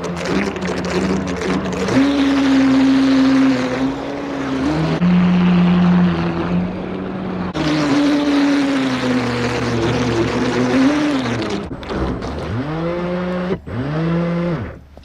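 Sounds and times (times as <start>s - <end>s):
electric boat motor whine: 0.0s - 14.8s.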